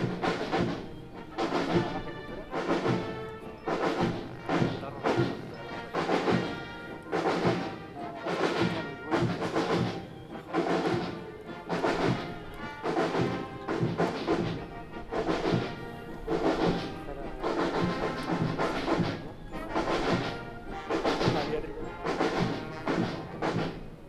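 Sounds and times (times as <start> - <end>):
brass: 0.0 - 24.0
military band playing march: 0.0 - 24.0
steady drum beat: 0.0 - 24.0.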